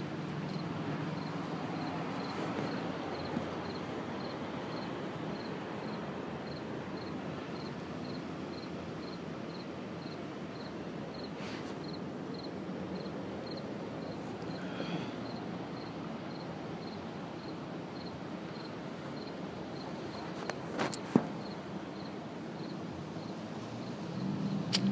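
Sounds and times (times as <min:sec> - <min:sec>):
outdoor background noise: 0:00.0 - 0:24.9.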